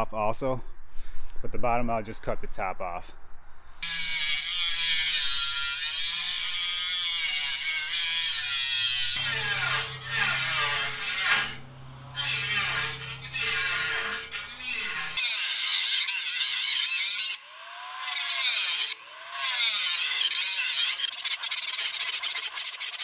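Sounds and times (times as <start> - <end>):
angle grinder cutting steel: 3.8 - 23.0.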